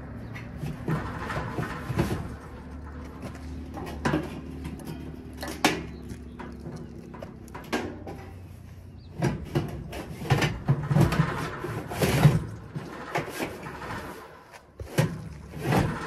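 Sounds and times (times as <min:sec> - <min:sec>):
sheet metal knocks and scraping: 0:00.2 - 0:16.0.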